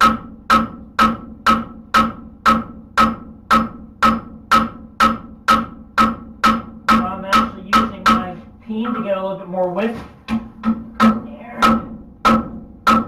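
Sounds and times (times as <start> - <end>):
hammer striking steel on anvil: 0.0 - 8.4, 10.6 - 13.0.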